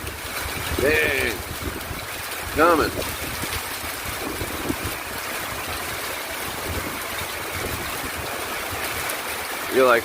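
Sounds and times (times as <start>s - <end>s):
heavy rain pouring: 0.0s - 10.0s
raindrops ticking on hard surfaces: 0.0s - 10.0s.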